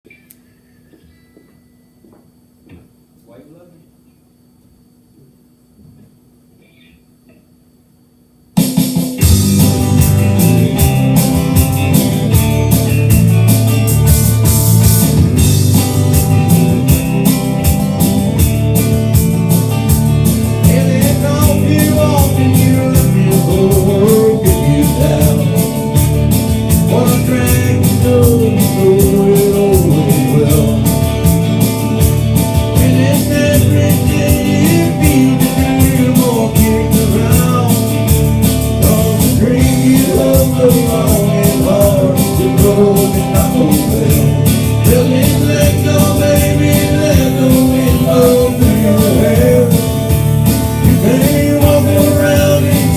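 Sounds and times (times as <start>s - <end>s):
country rock band playing: 8.6s - 52.9s.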